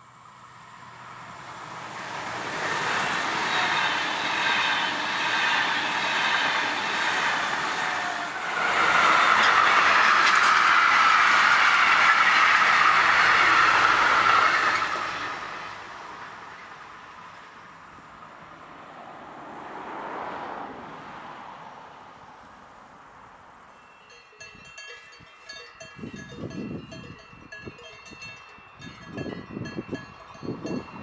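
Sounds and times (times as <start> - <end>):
freight train wheels on rails: 0.0 - 18.0, 23.6 - 31.0
electric passenger train passing: 0.0 - 31.0.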